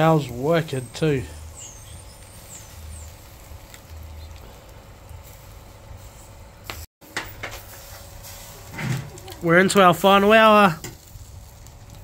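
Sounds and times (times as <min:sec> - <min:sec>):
faint fire crackles: 0:00.0 - 0:12.0.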